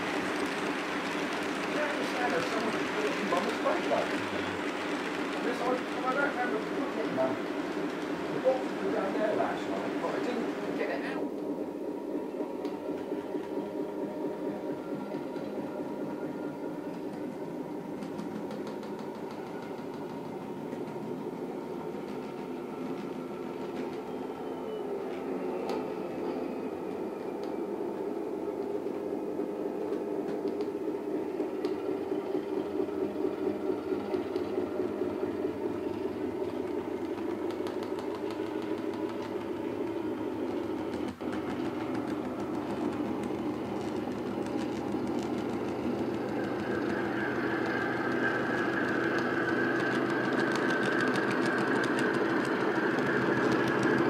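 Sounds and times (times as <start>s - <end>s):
model locomotive whine: 0.0s - 54.0s
model train mechanical hum: 0.0s - 54.0s.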